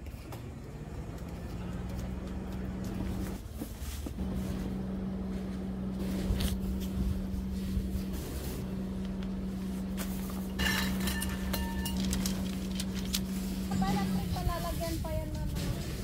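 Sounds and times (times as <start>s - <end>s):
tent fabric and bags rustling: 2.8s - 16.0s.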